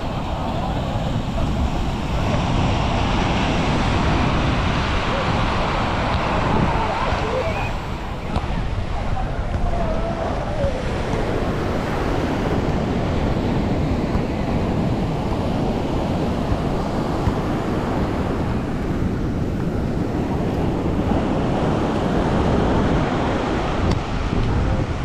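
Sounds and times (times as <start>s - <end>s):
ocean surf on sandy beach: 0.0s - 25.0s
wind buffeting microphone: 0.0s - 25.0s.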